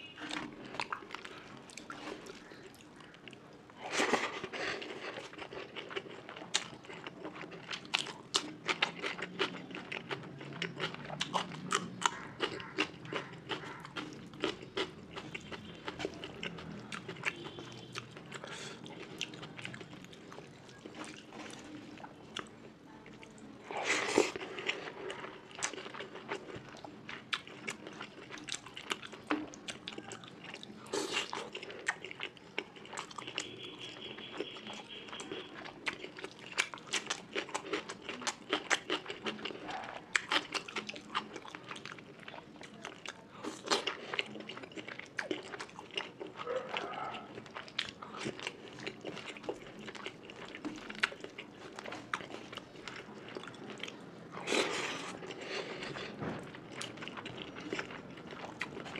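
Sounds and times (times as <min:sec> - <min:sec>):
person chewing: 0:00.0 - 0:58.9.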